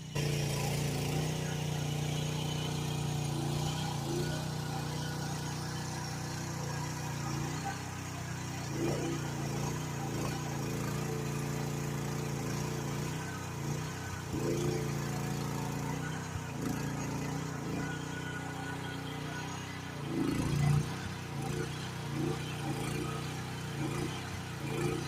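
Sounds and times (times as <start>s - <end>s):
mini excavator engine running: 0.0s - 25.0s.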